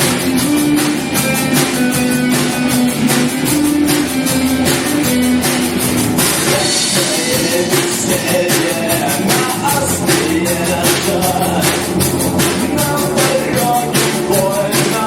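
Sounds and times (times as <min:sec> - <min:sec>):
held guitar notes: 0:00.0 - 0:14.3
drum kit beat: 0:00.0 - 0:15.0
live rock band playing: 0:00.0 - 0:15.0.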